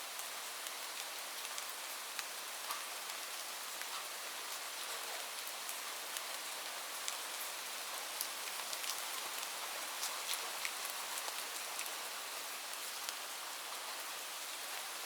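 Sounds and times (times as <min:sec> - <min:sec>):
raindrops ticking on a surface: 0:00.1 - 0:15.0.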